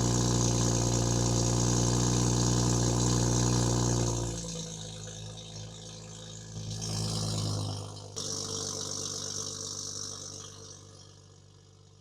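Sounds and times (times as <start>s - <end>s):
car exhaust idling: 0.0s - 11.9s.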